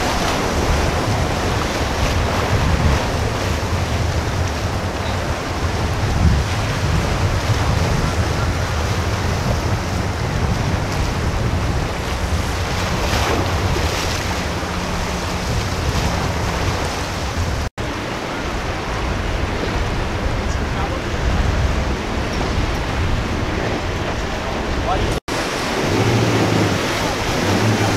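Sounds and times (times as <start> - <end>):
boat wake and surf: 0.0 - 27.9
outboard engines droning: 0.0 - 27.9
wind buffeting microphone: 0.0 - 27.9.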